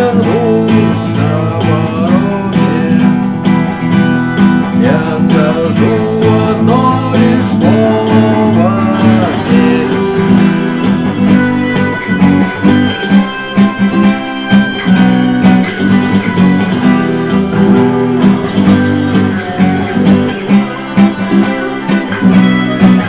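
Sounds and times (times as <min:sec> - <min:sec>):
instrumental rock guitar with beat: 0:00.0 - 0:23.0.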